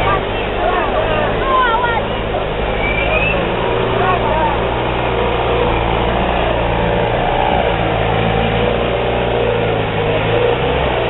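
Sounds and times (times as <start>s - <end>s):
truck engine running: 0.0s - 11.0s
water rushing and churning: 0.0s - 11.0s.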